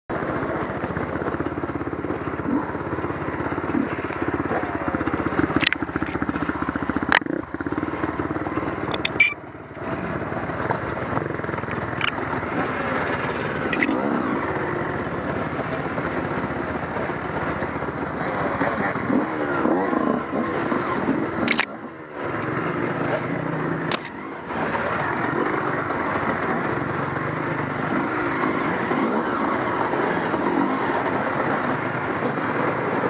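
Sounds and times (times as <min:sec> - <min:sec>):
dirt bike engine revving: 0:00.1 - 0:33.0.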